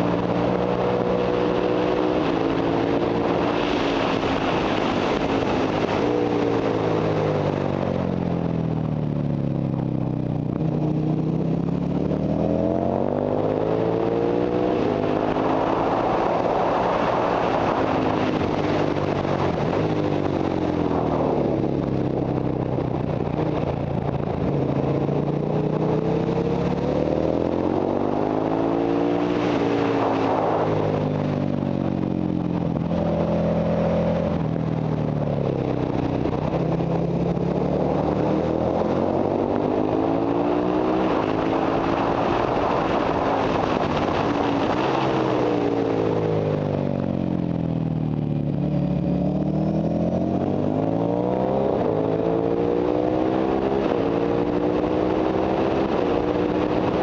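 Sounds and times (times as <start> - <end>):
motorcycle engine accelerating: 0.0 - 57.0
wind rush over microphone: 0.0 - 57.0.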